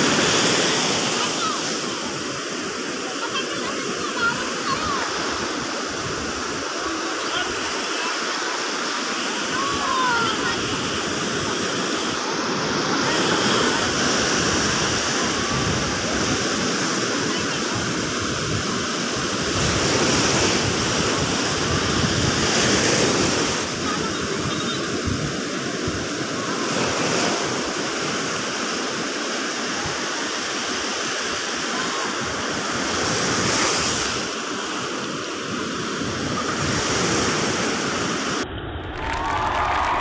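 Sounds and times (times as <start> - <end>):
ocean waves breaking: 0.0 - 40.0.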